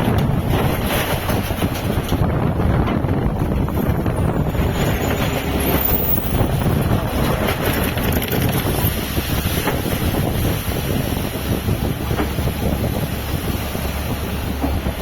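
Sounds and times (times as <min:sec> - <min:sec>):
boat and sea noise: 0:00.0 - 0:15.0
strong wind buffeting microphone: 0:00.0 - 0:15.0.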